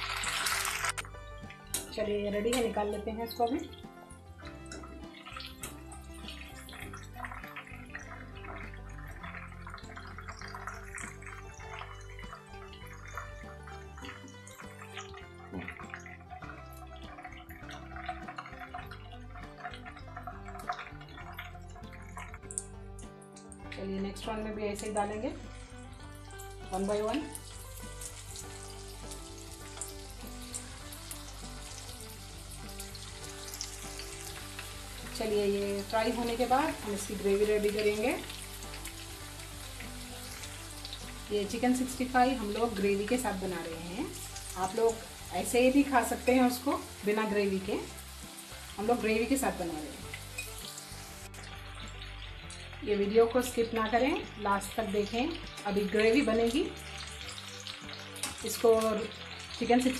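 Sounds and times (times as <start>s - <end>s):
background music: 0.0s - 59.9s
chicken deep-frying in oil: 0.0s - 59.9s.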